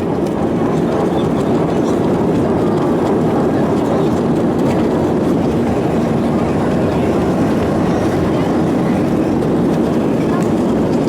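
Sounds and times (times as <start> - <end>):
airplane engines roaring in cabin: 0.0 - 11.0.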